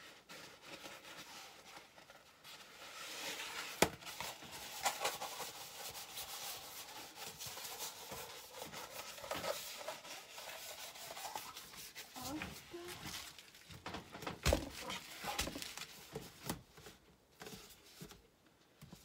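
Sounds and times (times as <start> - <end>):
paper rustling and crinkling: 0.0 - 19.0.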